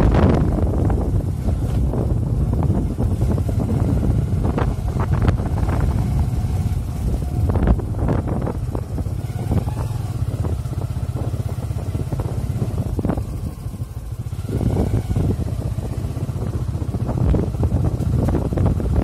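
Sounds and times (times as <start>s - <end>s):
motorcycle engine at low speed: 0.0s - 19.0s.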